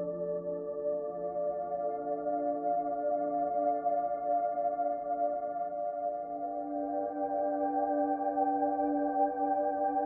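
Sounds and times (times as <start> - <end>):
ambient music with long held notes: 0.0 - 10.0.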